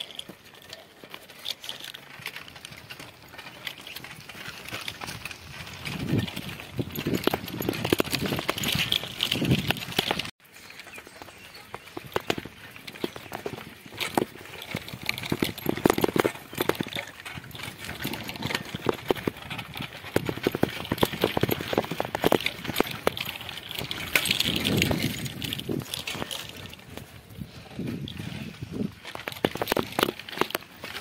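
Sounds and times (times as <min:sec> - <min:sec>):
bicycle rattling over stony track: 0:00.0 - 0:31.0.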